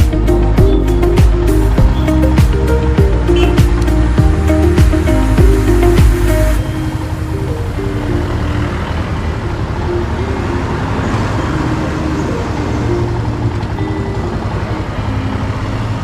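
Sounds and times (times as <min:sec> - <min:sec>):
motorcycle engine: 0:00.0 - 0:16.0
road noise: 0:00.0 - 0:16.0.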